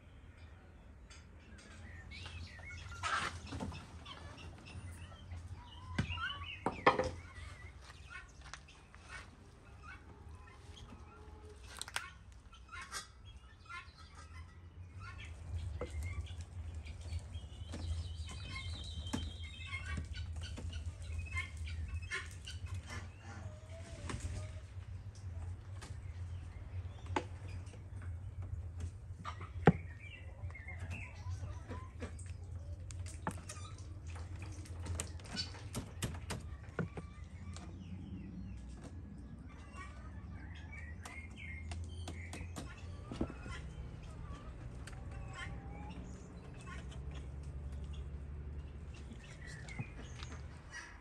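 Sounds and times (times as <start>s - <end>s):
chickens clucking and calling: 0.2s - 51.0s.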